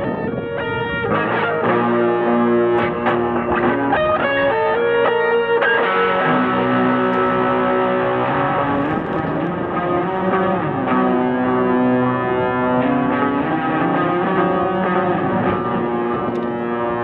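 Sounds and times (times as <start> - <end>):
electric guitar with effects: 0.0 - 17.0.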